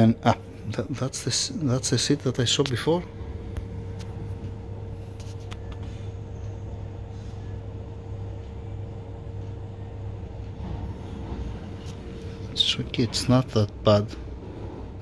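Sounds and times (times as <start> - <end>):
faint steady whine: 0.0 - 15.0
low machine hum: 0.0 - 15.0.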